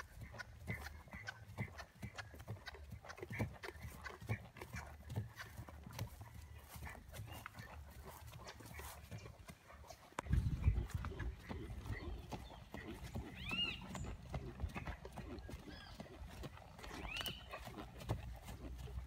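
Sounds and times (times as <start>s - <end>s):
horse hoofbeats trotting on grass: 0.0s - 19.0s.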